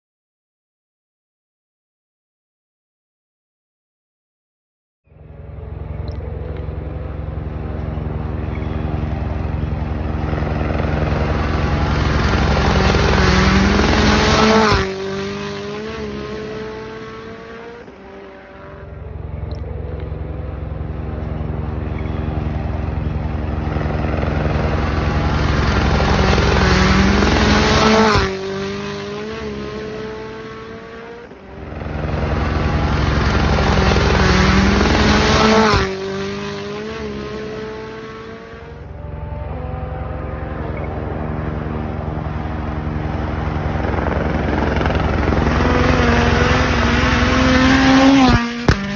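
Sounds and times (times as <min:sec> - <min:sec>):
rally cars passing: 0:05.1 - 0:48.9
gear changes: 0:05.2 - 0:48.9.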